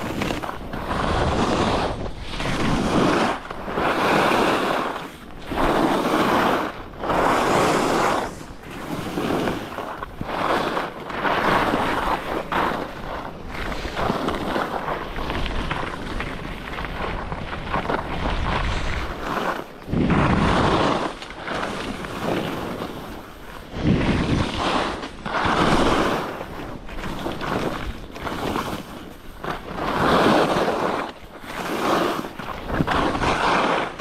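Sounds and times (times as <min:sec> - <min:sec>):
skis scraping snow: 0:00.0 - 0:34.0
wind across microphone: 0:00.0 - 0:34.0.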